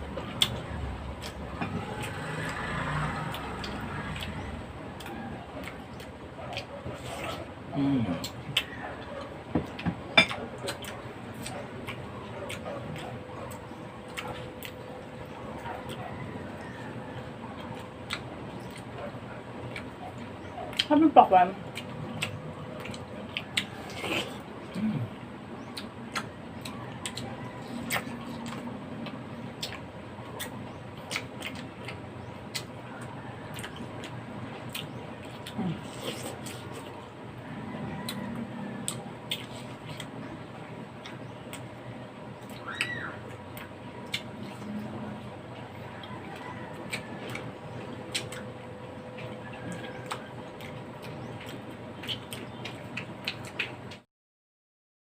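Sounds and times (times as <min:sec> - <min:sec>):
steady low hum: 0:00.0 - 0:54.0
eating clicks and smacks: 0:00.1 - 0:07.4, 0:08.1 - 0:20.9, 0:21.7 - 0:24.9, 0:25.6 - 0:37.0, 0:38.0 - 0:44.9, 0:45.5 - 0:54.0.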